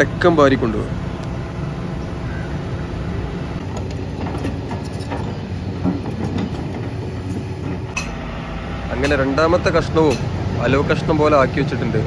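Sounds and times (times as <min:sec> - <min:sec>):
heavy machinery engine droning: 0:00.0 - 0:12.0.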